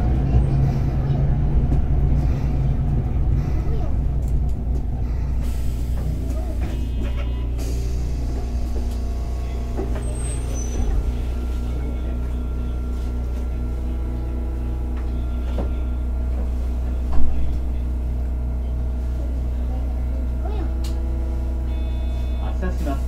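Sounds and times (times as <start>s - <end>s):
tram motors and wheels rumbling: 0.0s - 23.0s.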